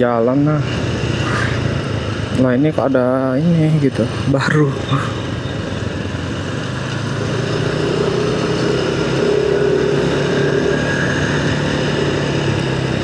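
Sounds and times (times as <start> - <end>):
motorcycle engine running: 0.6 - 13.0.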